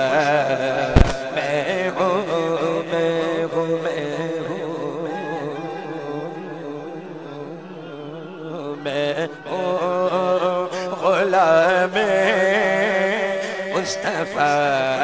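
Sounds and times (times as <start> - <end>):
man singing wavering notes: 0.0 - 15.0.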